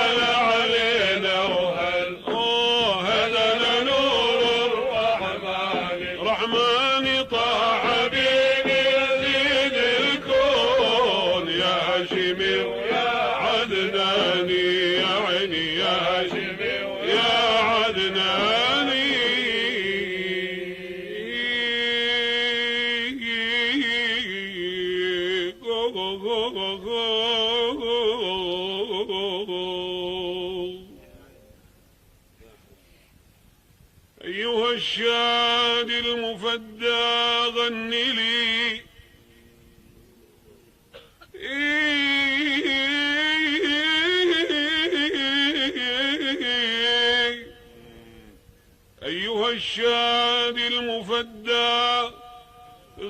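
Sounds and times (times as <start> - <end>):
man singing long melismatic notes: 0.0 - 31.2, 34.2 - 53.0.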